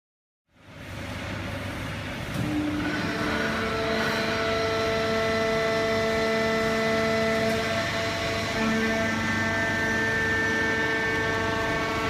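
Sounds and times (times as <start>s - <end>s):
paper baler machine whine: 1.4s - 12.0s.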